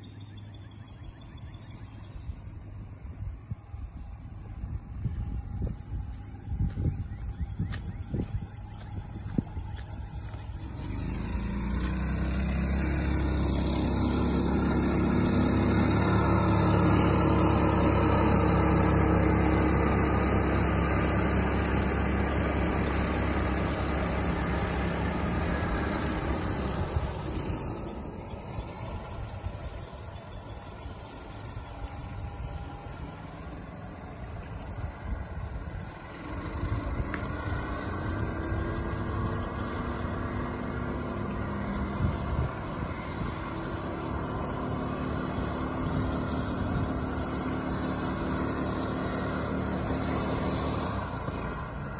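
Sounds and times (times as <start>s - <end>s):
boat motor at speed: 0.0s - 51.9s.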